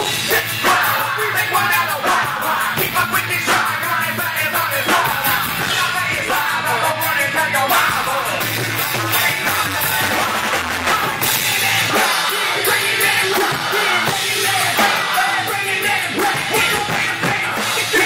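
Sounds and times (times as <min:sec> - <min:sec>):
live band music: 0:00.0 - 0:18.0
person singing into a microphone: 0:00.0 - 0:18.0.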